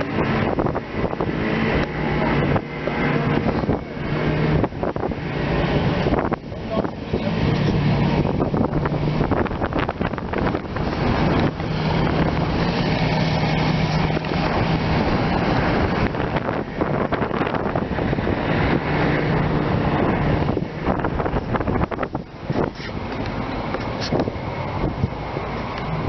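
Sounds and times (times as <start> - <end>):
low engine hum: 0.0 - 26.0
wind buffeting microphone: 0.0 - 26.0.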